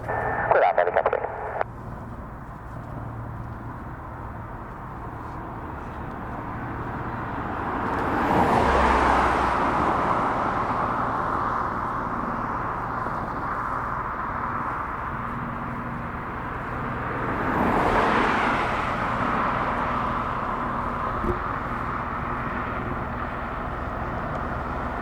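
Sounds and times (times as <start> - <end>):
aircraft passing by: 0.0 - 25.0.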